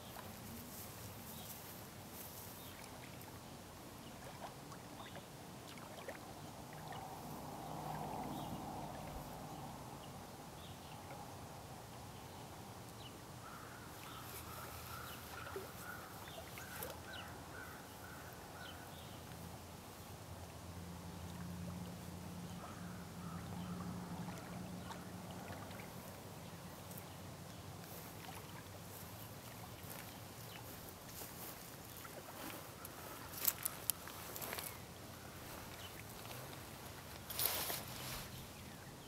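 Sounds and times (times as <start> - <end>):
low steady hum: 0.0 - 39.0
water lapping at shore: 0.0 - 39.0.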